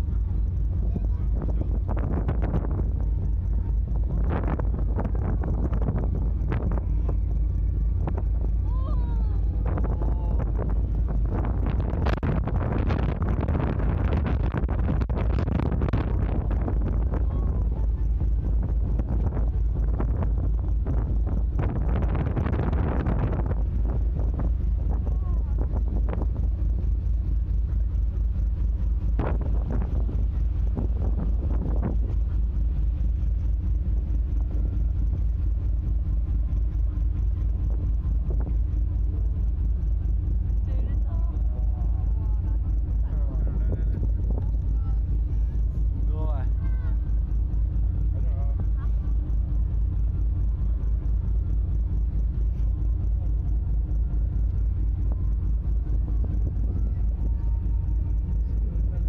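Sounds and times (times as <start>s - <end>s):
faint steady hum: 0.0s - 59.0s
faint voices: 0.0s - 59.0s
ship engine rumble: 0.0s - 59.0s.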